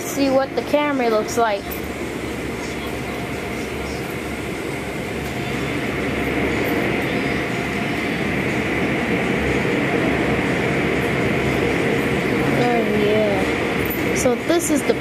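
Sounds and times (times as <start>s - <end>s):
air dryers blowing: 0.0s - 15.0s.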